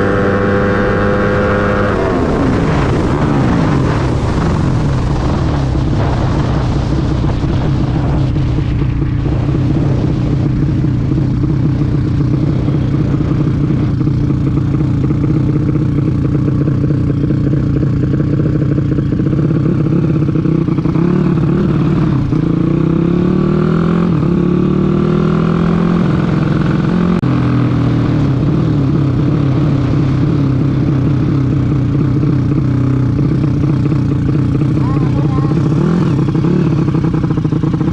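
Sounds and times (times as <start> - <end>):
racing motorcycle engines: 0.0 - 37.9.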